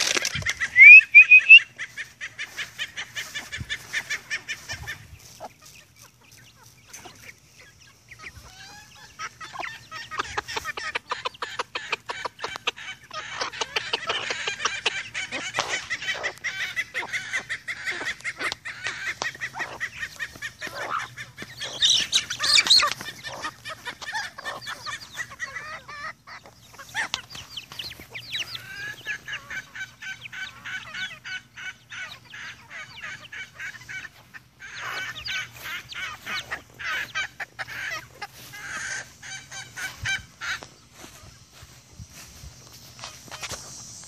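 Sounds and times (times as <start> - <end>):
chickens clucking and calling: 0.0 - 44.0.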